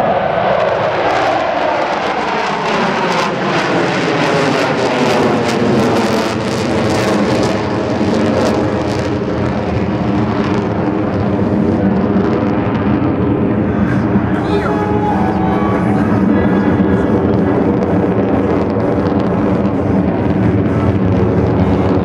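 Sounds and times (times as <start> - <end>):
jet aircraft noise: 0.0 - 22.0.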